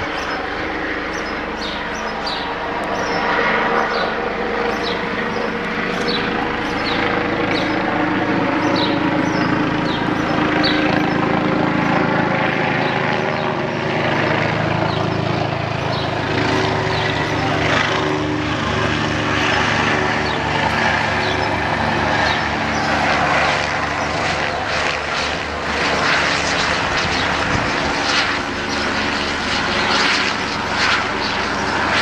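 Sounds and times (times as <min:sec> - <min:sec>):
helicopter drone: 0:00.0 - 0:32.0.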